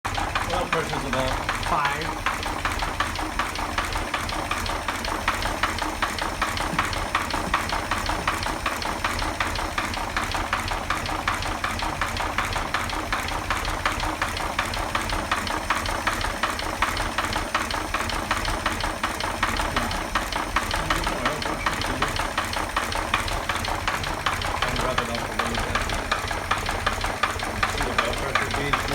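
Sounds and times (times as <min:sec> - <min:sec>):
car engine idling with knock: 0:00.0 - 0:28.9.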